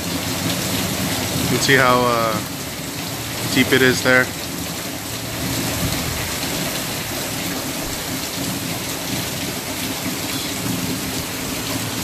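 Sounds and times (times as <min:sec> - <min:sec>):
steady rain splashing: 0:00.0 - 0:12.0.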